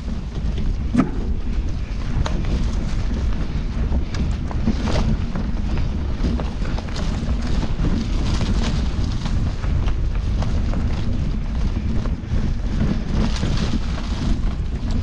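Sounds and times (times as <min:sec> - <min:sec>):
tyres crackling on leaves and twigs: 0:00.0 - 0:15.0
wind and vibration rumble on microphone: 0:00.0 - 0:15.0.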